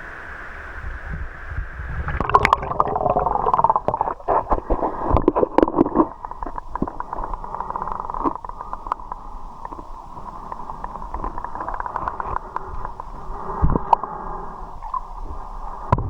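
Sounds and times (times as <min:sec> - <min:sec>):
water splashing and gurgling: 0:00.3 - 0:15.6.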